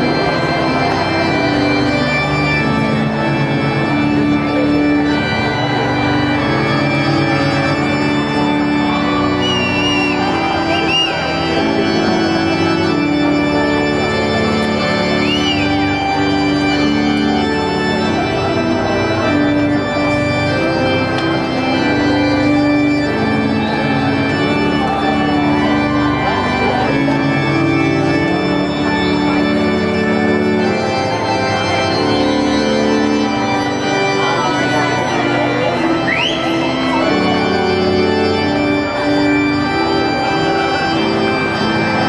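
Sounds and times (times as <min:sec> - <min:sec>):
organ playing sustained chords: 0:00.0 - 0:42.0.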